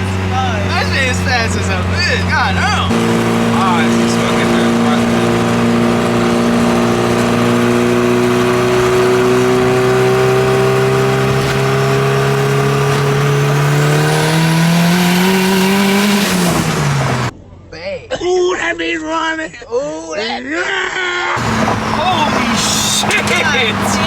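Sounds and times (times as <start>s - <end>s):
car engine revving: 0.0s - 17.4s, 21.4s - 24.0s.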